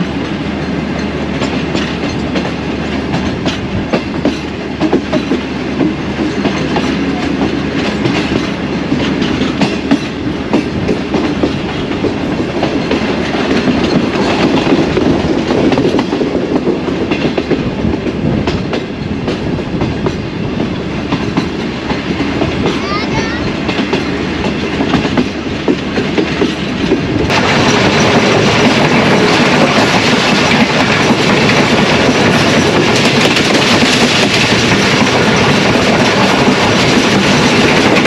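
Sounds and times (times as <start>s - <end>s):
steady train rumble: 0.0s - 38.0s
train wheels clattering over rail joints: 0.0s - 38.0s.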